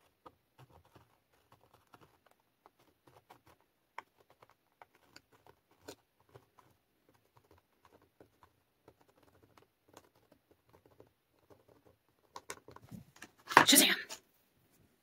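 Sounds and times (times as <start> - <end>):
marker scratching on stencil: 0.0 - 13.0.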